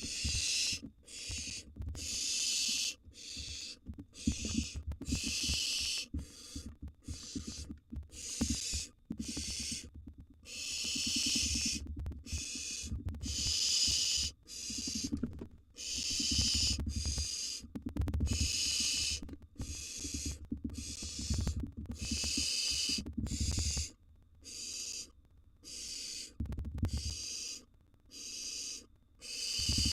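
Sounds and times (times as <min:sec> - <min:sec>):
owl nestlings hissing calls: 0:00.0 - 0:15.2, 0:15.8 - 0:29.9.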